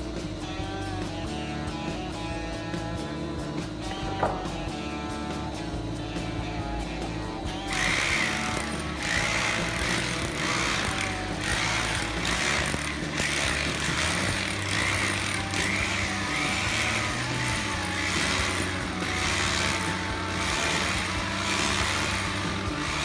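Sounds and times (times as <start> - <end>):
background music with low notes: 0.0 - 23.0.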